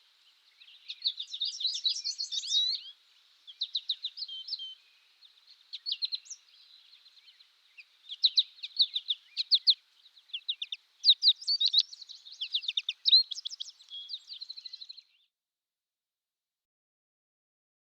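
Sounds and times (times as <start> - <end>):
goldfinch chirping: 0.5 - 15.3.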